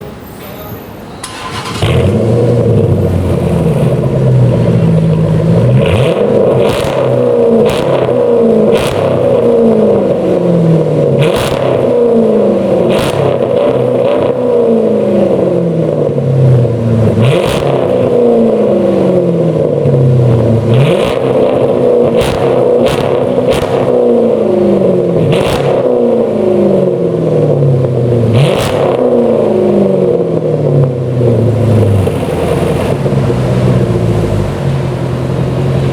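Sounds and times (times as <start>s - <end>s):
car engine revving: 1.2s - 35.9s
exhaust crackles: 1.2s - 35.9s.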